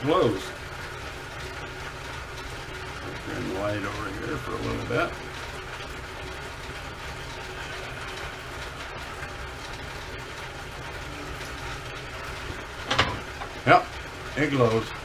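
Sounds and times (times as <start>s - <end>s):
low mechanical hum with rattle: 0.0s - 15.0s.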